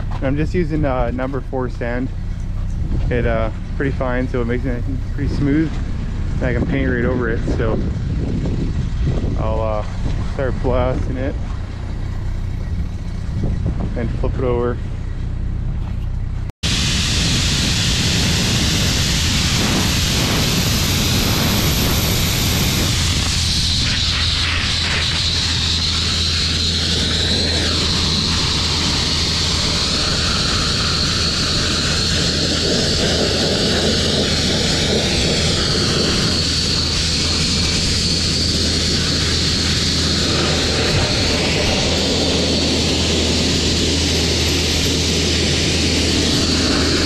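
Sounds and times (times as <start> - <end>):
sandblaster hissing: 0.0 - 14.5, 16.6 - 47.0
low hum: 0.0 - 47.0.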